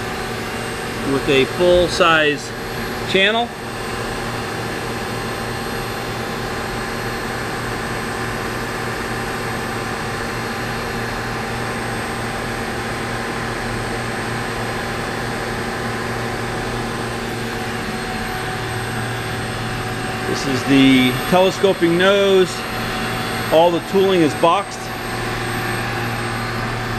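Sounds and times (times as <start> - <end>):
machinery and ventilation hum: 0.0 - 26.9.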